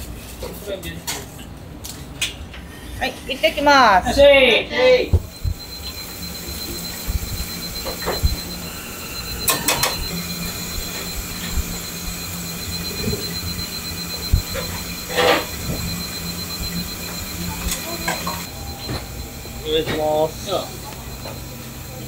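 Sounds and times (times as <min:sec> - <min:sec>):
machine hum with high whine: 0:04.2 - 0:22.0.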